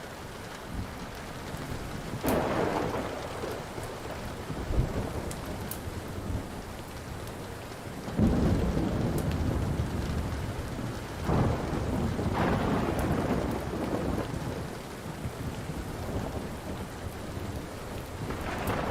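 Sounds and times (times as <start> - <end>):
faint wood fire crackling: 0.0 - 18.9
steady rain: 0.0 - 18.9
thunder crack and rumbling: 0.7 - 7.3, 8.0 - 18.9.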